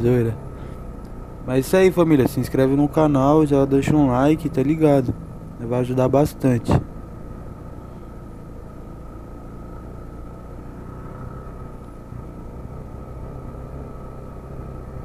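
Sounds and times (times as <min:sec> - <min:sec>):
thin whine: 0:00.0 - 0:15.0.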